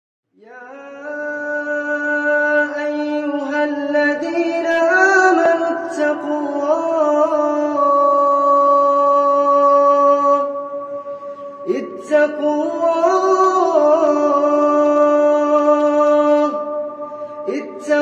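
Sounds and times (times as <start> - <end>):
person chanting melodically: 0.4 - 18.0.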